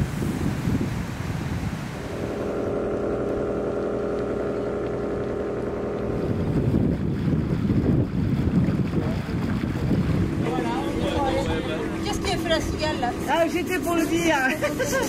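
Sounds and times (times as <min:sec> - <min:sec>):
wind buffeting microphone: 0:00.0 - 0:15.0
steady engine drone: 0:01.9 - 0:15.0.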